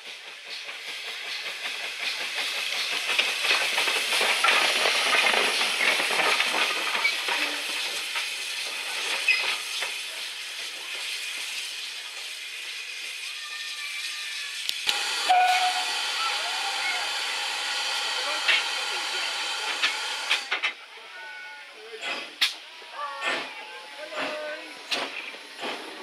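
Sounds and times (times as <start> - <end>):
steam locomotive hissing: 0.0 - 26.0.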